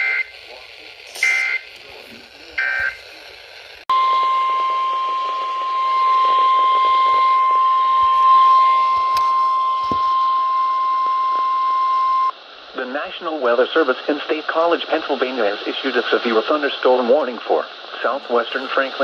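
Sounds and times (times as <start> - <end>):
radio hiss: 0.0 - 19.0.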